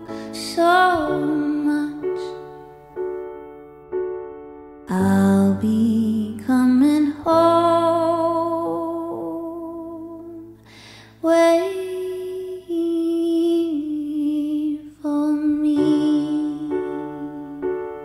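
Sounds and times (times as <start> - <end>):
slow song with sustained vocals: 0.0 - 3.3, 4.8 - 18.0.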